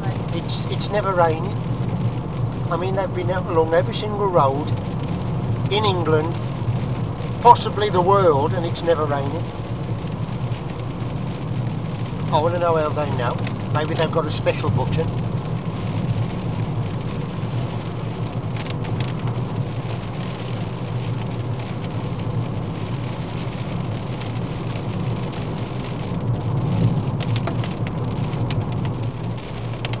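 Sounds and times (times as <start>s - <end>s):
rain on a moving car: 0.0s - 30.0s
road and engine noise: 0.0s - 30.0s.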